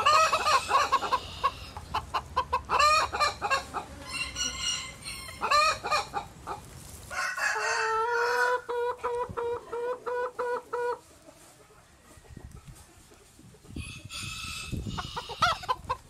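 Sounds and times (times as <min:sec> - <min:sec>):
chickens squawking and clucking: 0:00.0 - 0:16.0.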